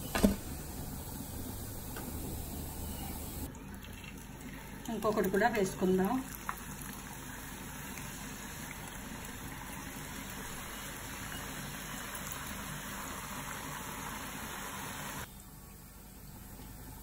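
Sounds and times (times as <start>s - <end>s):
hot oil sizzling and bubbling: 0.0s - 15.3s.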